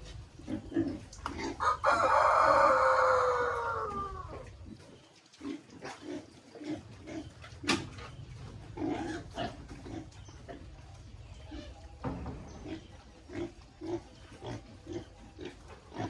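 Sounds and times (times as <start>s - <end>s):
pigs grunting: 0.0s - 16.0s.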